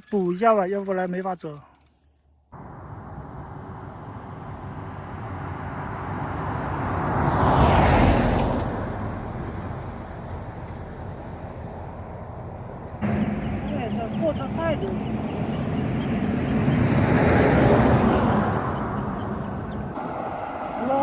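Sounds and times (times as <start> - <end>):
truck passing: 2.5 - 21.0.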